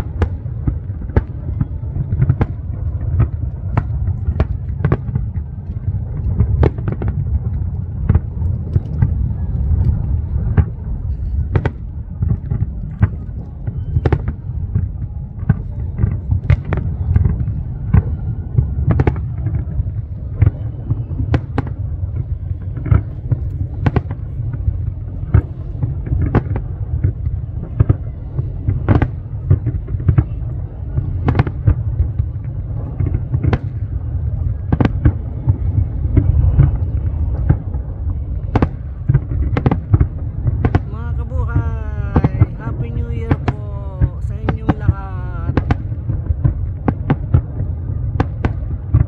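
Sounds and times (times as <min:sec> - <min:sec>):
fireworks bursting: 0:00.0 - 0:49.0
low rumble: 0:00.0 - 0:49.0.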